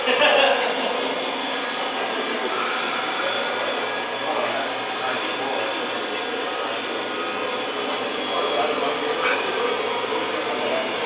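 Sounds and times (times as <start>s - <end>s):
blower whirring: 0.0s - 11.0s.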